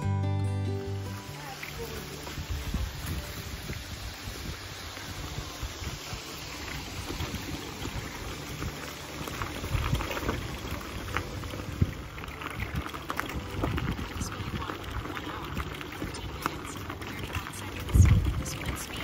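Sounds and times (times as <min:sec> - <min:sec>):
bicycle tyres rolling over leaves: 0:00.7 - 0:19.0.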